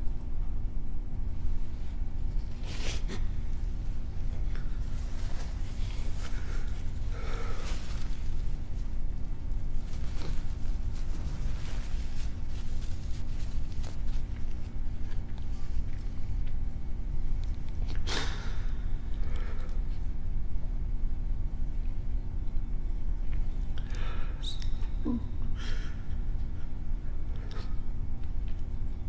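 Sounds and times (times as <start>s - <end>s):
low sound system hum: 0.0s - 29.0s.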